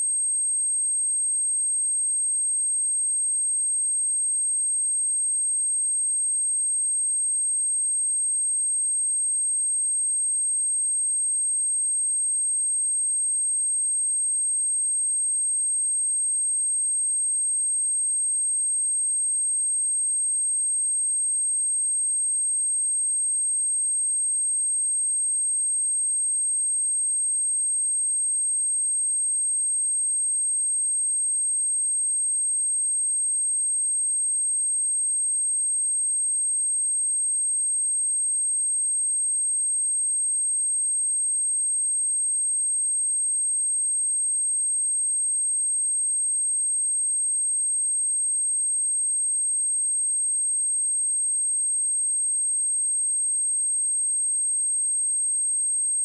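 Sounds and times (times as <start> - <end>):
high-pitched sine test tone: 0.0 - 56.0.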